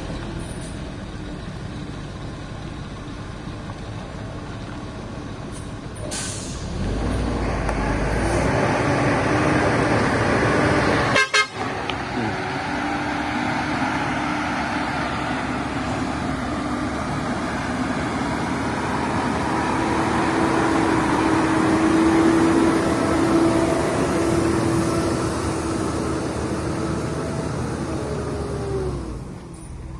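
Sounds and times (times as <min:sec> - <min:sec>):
diesel truck engine under load: 0:00.0 - 0:29.9.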